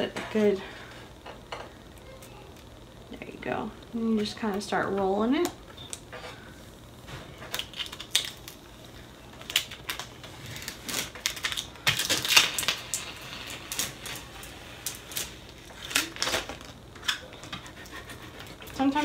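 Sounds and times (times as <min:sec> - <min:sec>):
transfer tape crackling: 0:00.0 - 0:19.0.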